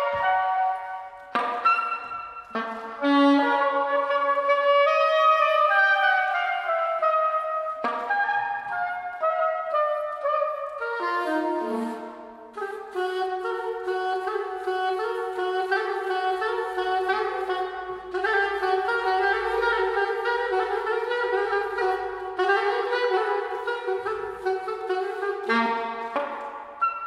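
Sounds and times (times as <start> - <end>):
soprano saxophone playing: 0.0 - 27.0.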